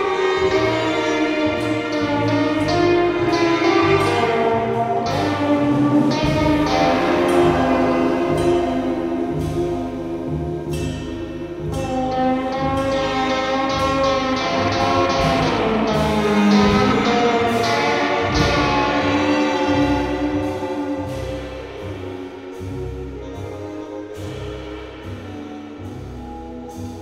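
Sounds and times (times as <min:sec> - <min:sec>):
live band music: 0:00.0 - 0:27.0.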